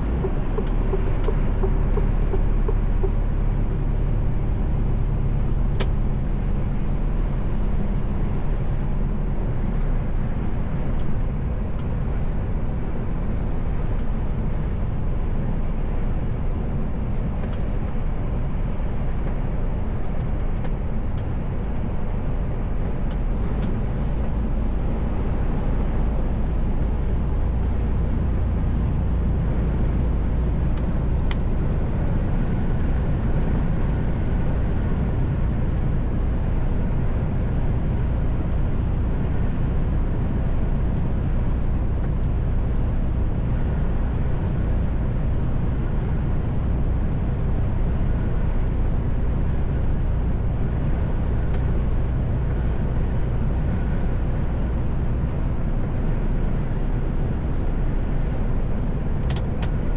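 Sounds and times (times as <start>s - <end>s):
truck engine and road noise: 0.0s - 59.9s.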